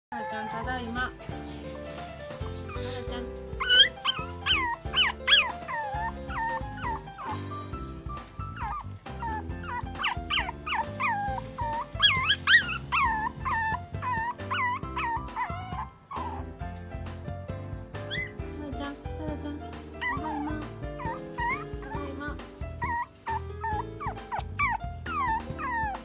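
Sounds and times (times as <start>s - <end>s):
puppy whining: 0.1s - 16.8s, 18.0s - 18.4s, 19.9s - 26.0s
background music: 0.1s - 26.0s.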